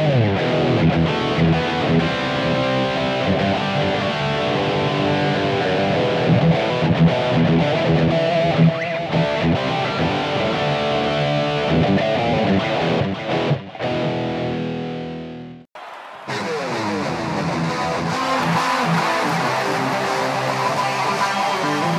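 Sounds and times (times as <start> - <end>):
electric guitar music: 0.0 - 15.6, 16.3 - 21.9.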